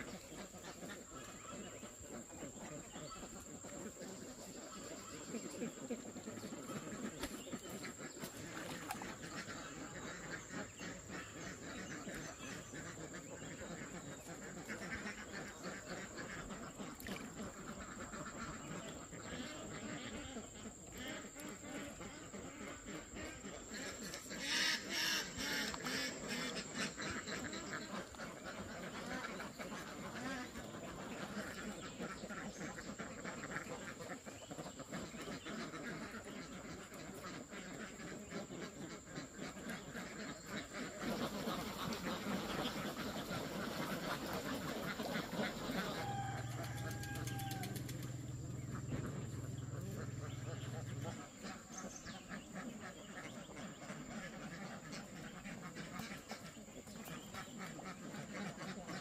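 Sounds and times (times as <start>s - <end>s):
ducks quacking: 0.0s - 59.0s.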